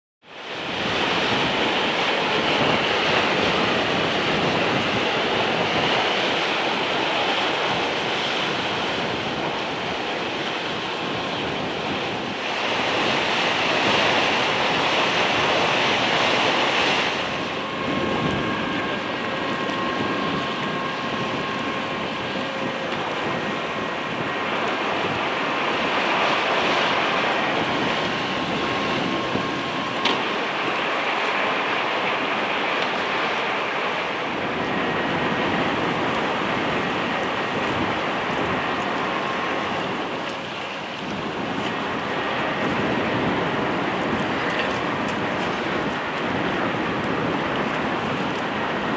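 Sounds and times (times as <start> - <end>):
rough sea and surf: 0.2 - 48.9
wind buffeting microphone: 0.2 - 48.9
faint steady hums: 0.4 - 48.9.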